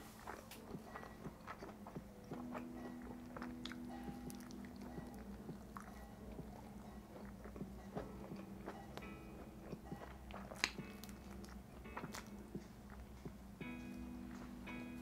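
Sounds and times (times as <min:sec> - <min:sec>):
biting and chewing pizza: 0:00.0 - 0:13.4
low steady hum: 0:00.0 - 0:15.0.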